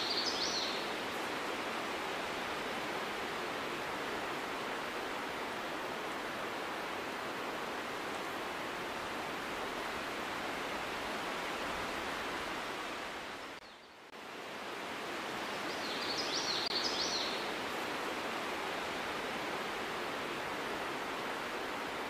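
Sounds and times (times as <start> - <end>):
steady outdoor rushing hiss: 0.0 - 22.0.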